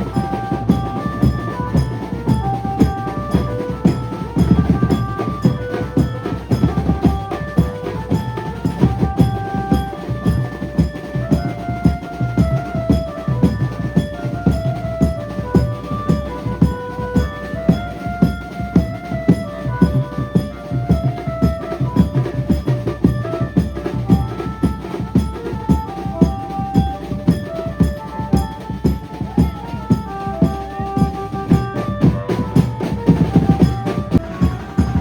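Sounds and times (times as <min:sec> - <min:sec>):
fast drumming: 0:00.0 - 0:35.0.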